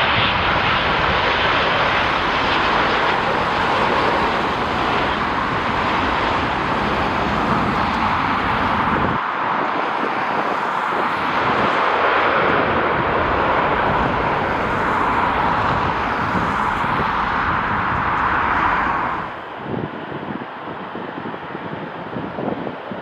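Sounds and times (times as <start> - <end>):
jet airliner engine noise: 0.0 - 23.0.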